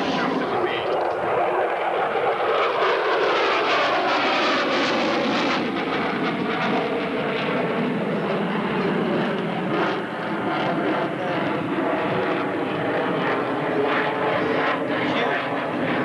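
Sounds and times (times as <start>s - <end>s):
plane flying past: 0.0s - 16.0s.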